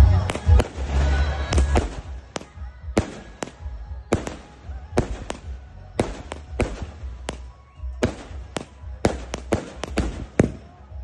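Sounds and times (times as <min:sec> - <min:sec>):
firework cake sharp bangs: 0:00.0 - 0:11.0.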